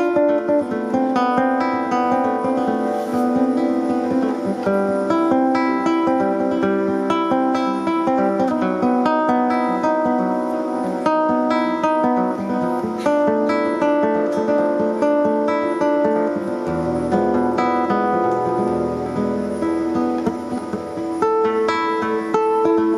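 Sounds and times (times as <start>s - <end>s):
acoustic guitar music: 0.0s - 22.9s.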